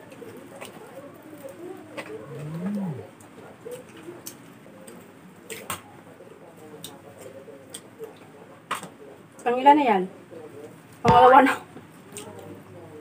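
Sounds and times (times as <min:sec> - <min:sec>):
people chewing with smacks: 0:00.0 - 0:09.5, 0:11.7 - 0:13.0.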